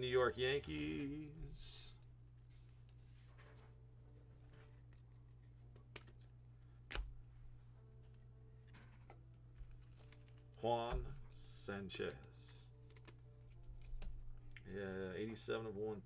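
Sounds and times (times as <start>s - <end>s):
steady low hum: 0.0s - 16.0s
trading cards being handled: 0.4s - 3.8s, 4.4s - 14.6s.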